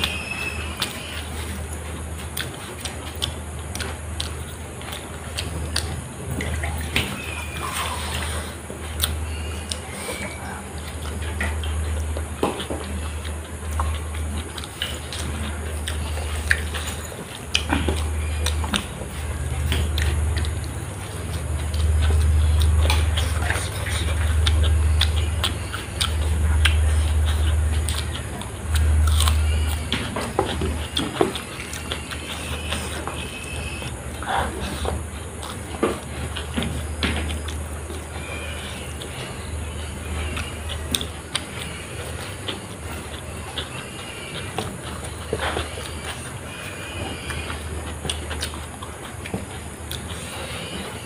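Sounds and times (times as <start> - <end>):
steady low hum: 0.0 - 51.0
wet chewing and mouth clicks: 0.0 - 51.0.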